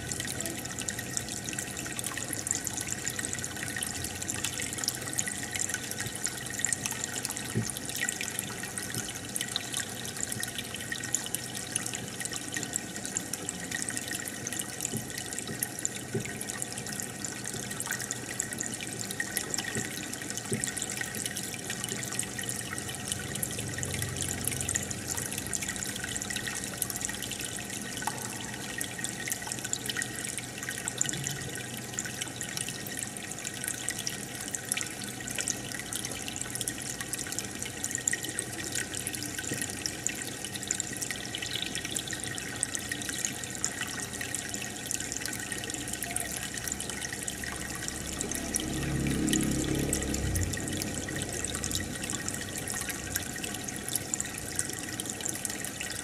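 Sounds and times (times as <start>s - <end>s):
aquarium air bubbler bubbling: 0.0s - 56.0s.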